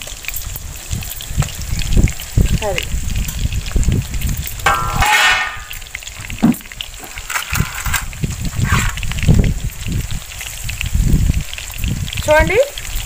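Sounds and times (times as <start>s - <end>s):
vegetables crackling in hot oil: 0.0s - 13.0s.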